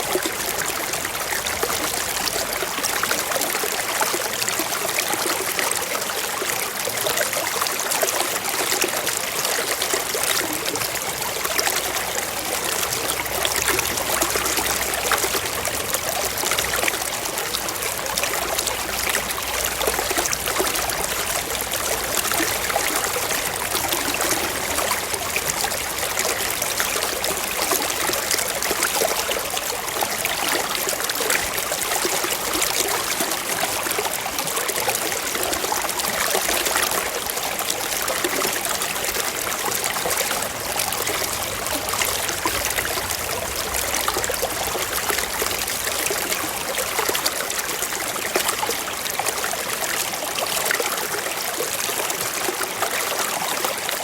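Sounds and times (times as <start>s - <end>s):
brook running over rocks: 0.0s - 54.0s.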